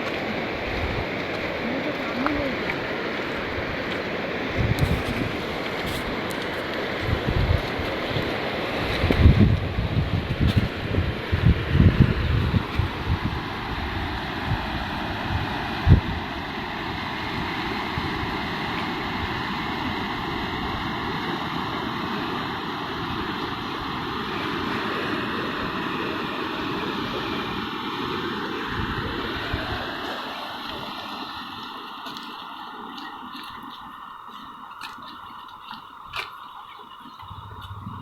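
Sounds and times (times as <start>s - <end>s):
fast-flowing river rushing: 0.0s - 38.0s
wind rumble on microphone: 0.0s - 38.0s.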